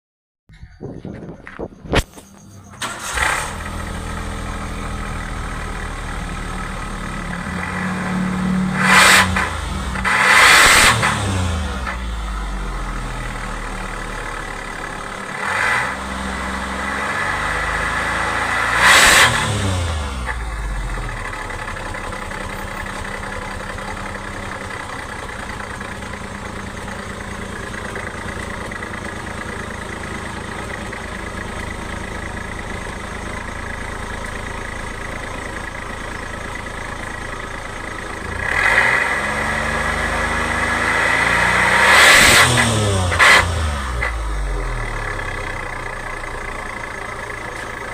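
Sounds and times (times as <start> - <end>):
engine rumbling and revving: 1.1 - 47.9.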